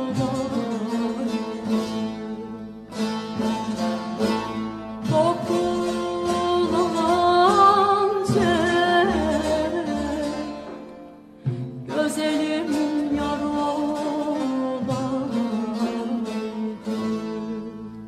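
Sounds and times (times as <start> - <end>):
folk music with plucked strings: 0.0 - 18.0.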